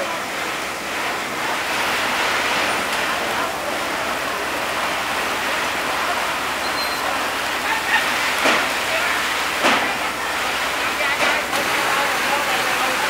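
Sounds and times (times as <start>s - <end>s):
fire hoses spraying water: 0.0s - 13.0s.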